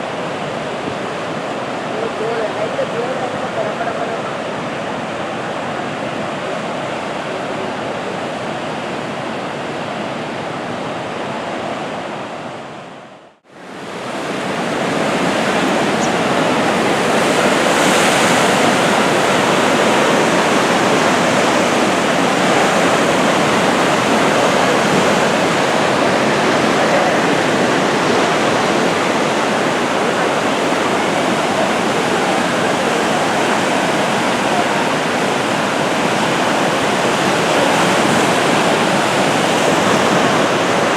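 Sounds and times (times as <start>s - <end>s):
sea surf washing: 0.0s - 40.9s.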